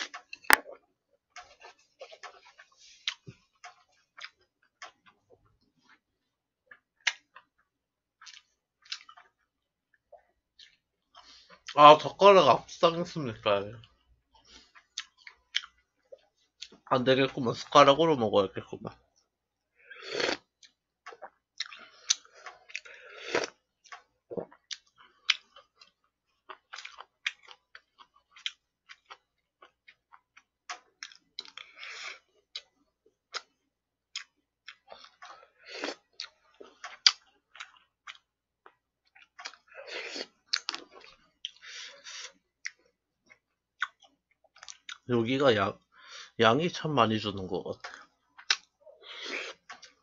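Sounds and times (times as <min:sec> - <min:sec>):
chewing food: 0:00.0 - 0:11.8, 0:13.7 - 0:16.9, 0:18.8 - 0:45.1, 0:47.8 - 0:50.0.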